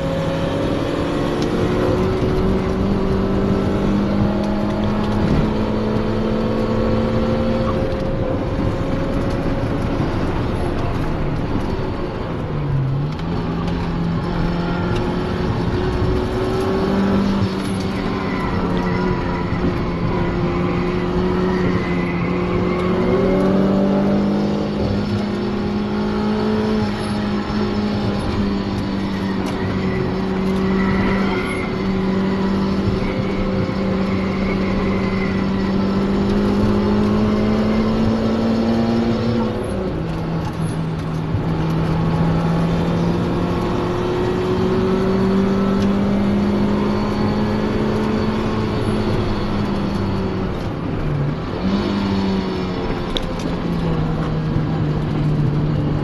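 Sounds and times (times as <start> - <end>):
car engine droning: 0.0 - 56.0
constant rushing noise: 0.0 - 56.0.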